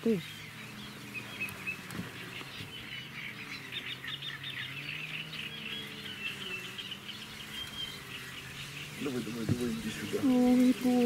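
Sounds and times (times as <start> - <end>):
small birds chirping and whistling: 0.0 - 11.0.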